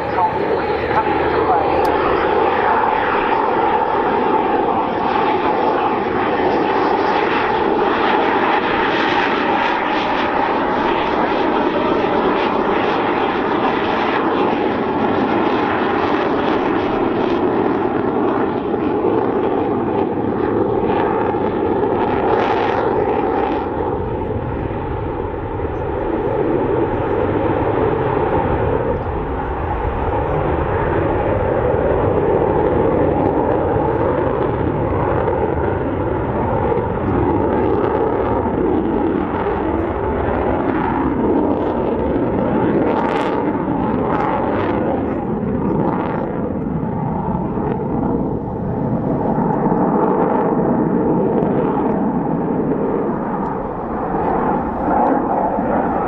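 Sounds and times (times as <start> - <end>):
fighter jet engines roaring: 0.0 - 56.0.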